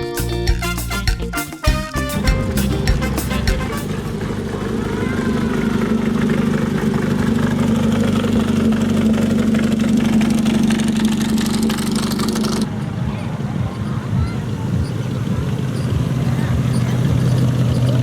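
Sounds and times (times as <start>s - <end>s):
car engine idling: 2.3s - 18.0s.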